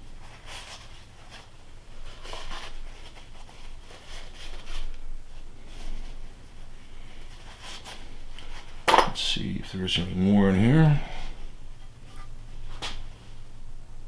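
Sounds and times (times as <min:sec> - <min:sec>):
cloth rubbing on metal: 0:00.0 - 0:13.5.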